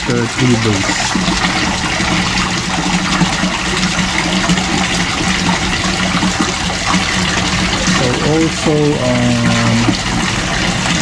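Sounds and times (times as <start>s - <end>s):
steady low hum: 0.0s - 11.0s
water splashing into pond: 0.0s - 11.0s.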